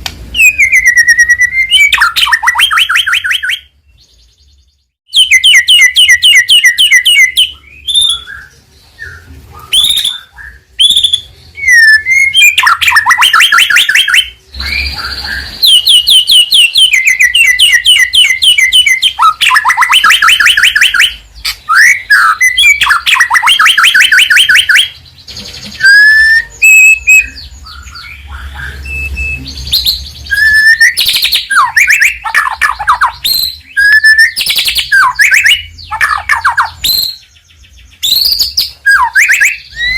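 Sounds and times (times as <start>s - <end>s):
bird singing loudly: 0.4s - 39.9s.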